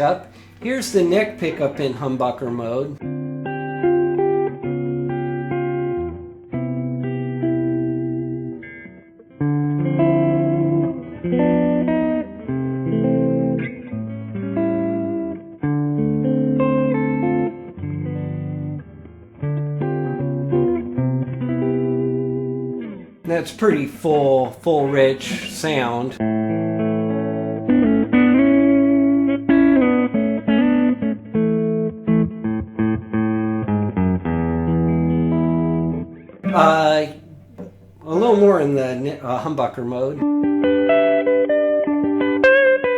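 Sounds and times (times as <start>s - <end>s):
electric guitar chords: 0.0s - 42.9s.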